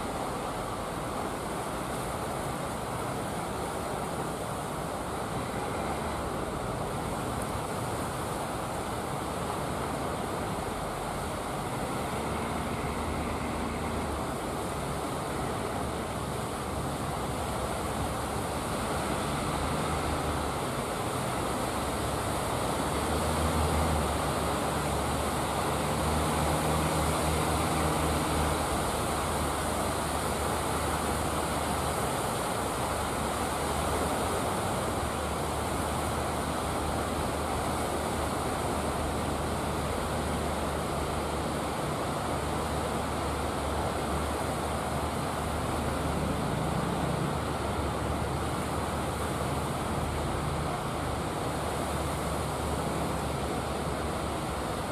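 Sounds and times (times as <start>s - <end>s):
boat engines droning: 0.0s - 54.9s
surf rushing: 0.0s - 54.9s
wind: 0.0s - 54.9s.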